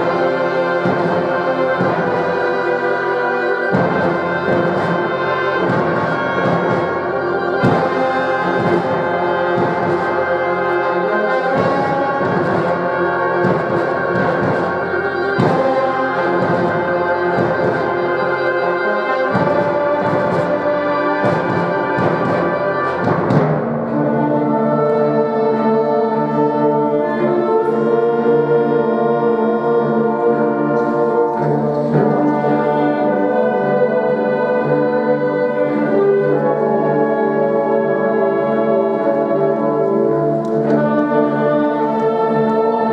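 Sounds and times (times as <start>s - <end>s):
brass ensemble music: 0.0s - 42.9s.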